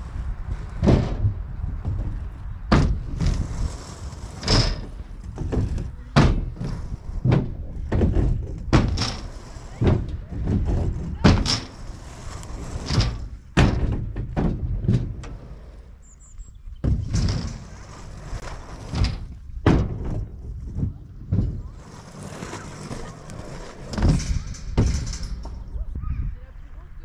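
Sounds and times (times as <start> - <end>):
wind buffeting microphone: 0.0 - 15.9, 16.5 - 27.0.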